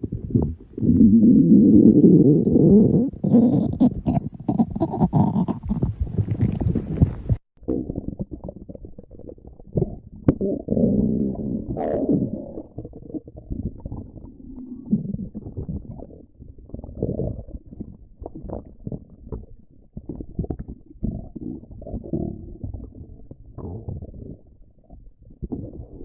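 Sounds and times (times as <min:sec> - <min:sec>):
stomach growling and gurgling: 0:00.0 - 0:26.0.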